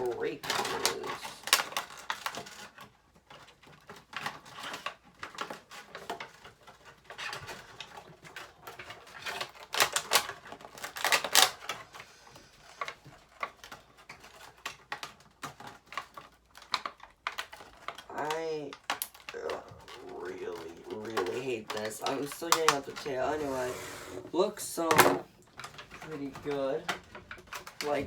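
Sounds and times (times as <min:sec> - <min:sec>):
plastic packaging crackling: 0:00.0 - 0:28.0.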